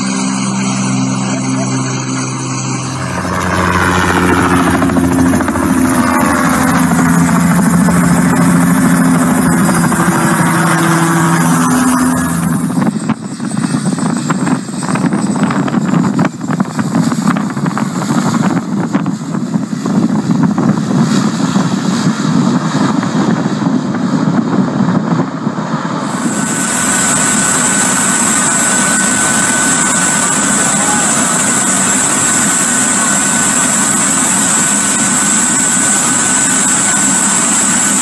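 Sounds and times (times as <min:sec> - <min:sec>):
cockpit drone with high whine: 0:00.0 - 0:38.0
helicopter rotor and turbine: 0:00.0 - 0:38.0
propeller plane engines: 0:00.0 - 0:38.0
wind buffeting microphone: 0:02.3 - 0:38.0.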